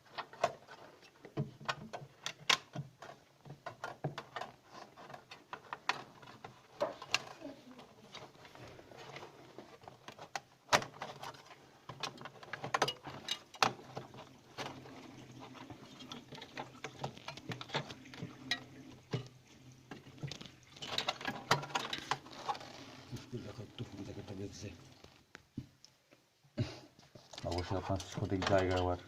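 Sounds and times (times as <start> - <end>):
plastic parts clicking and knocking: 0.0 - 26.2, 27.0 - 29.0.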